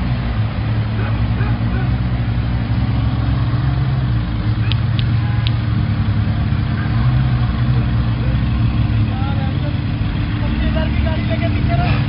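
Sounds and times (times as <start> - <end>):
car engines running at low speed: 0.0 - 12.0.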